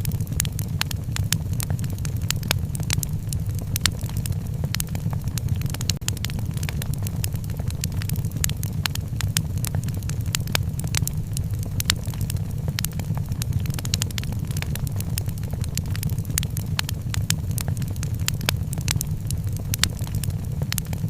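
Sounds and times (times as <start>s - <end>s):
low rumble of burning fire: 0.0s - 21.0s
wood fire popping and snapping: 0.0s - 21.0s.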